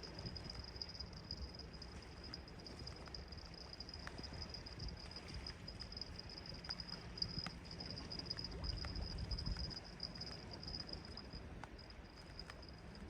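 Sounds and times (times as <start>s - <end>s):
faint ticks: 0.0s - 13.0s
high insect chirring: 0.0s - 13.0s
sea and wind rumble: 0.0s - 13.0s.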